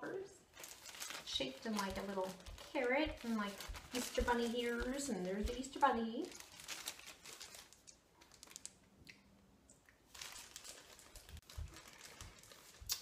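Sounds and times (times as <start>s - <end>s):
plastic bag crinkling: 0.4s - 8.8s, 10.1s - 13.0s.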